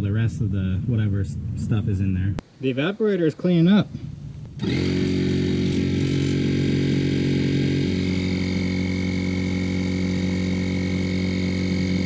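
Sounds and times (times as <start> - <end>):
droning hum: 0.0 - 2.6, 3.3 - 12.0.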